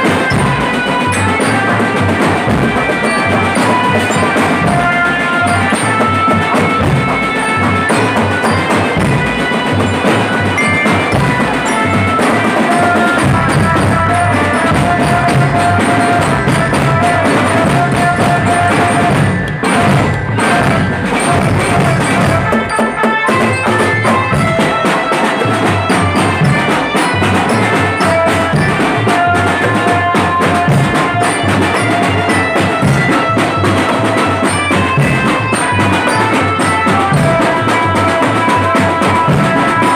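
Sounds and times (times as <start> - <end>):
drum band drumming: 0.0 - 39.9
held melody notes: 0.0 - 39.9.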